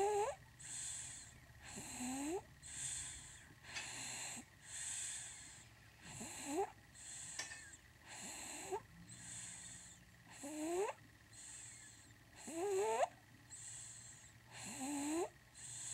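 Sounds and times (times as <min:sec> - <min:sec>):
baby snoring: 0:00.0 - 0:15.9.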